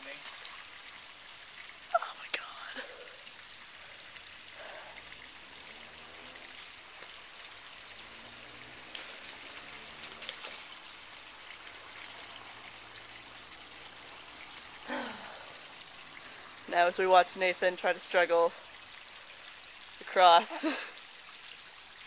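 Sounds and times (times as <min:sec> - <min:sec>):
creek water trickling: 0:00.0 - 0:22.0.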